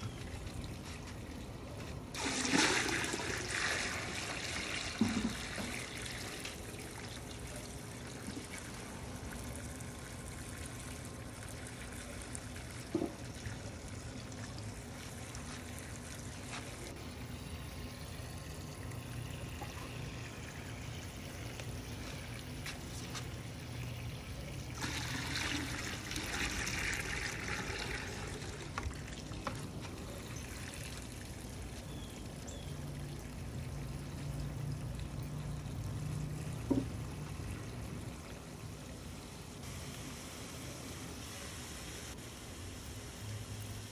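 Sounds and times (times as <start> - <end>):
water pouring into a bucket: 0.0 - 40.9.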